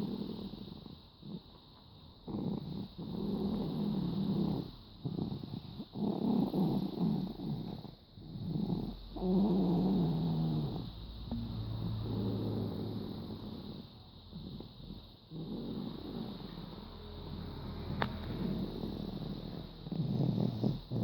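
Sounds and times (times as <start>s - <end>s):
baby snoring: 0.0s - 1.6s, 2.2s - 11.0s, 11.8s - 21.0s.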